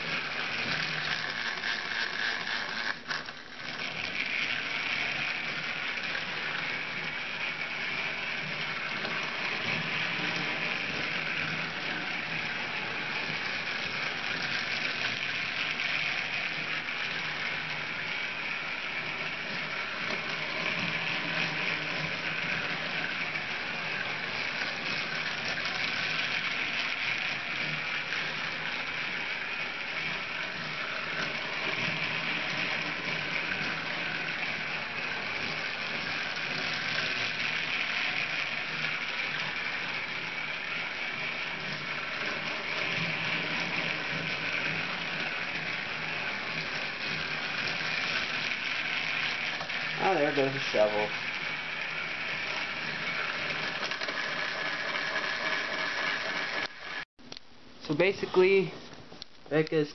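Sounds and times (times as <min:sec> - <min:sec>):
toy train motor whirring: 0:00.0 - 0:57.1.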